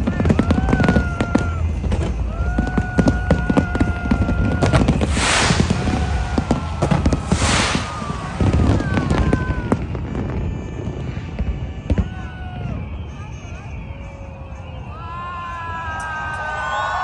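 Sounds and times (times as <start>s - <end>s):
fireworks bangs and pops: 0.0s - 13.8s
fireworks hissing crackles: 0.0s - 14.7s.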